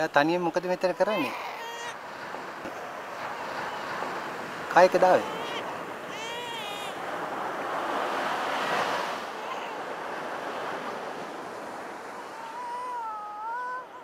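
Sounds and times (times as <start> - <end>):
ocean surf washing in: 0.0 - 14.0.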